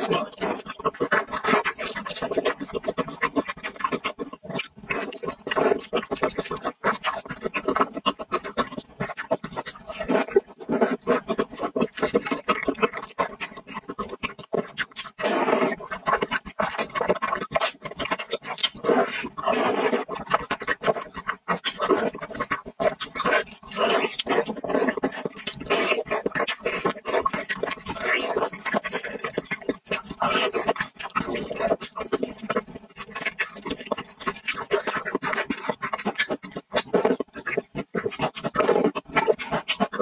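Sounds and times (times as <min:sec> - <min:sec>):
slurping and chewing noodles: 0:00.0 - 0:40.0.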